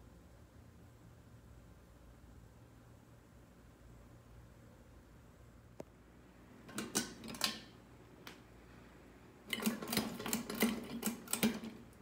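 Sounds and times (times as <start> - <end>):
ceiling fan running: 0.0 - 12.0.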